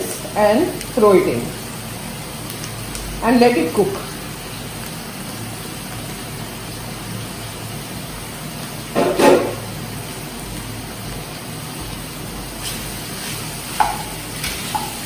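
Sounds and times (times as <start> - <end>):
mushrooms sizzling in oil: 0.0 - 15.0.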